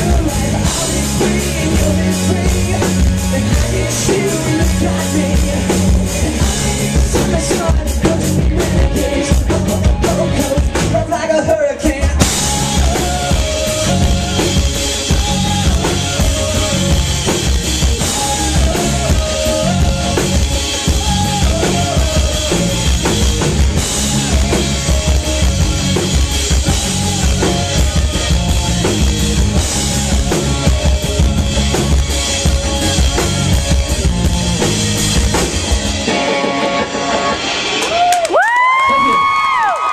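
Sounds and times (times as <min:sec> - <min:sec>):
rock band playing instrumental: 0:00.0 - 0:39.9.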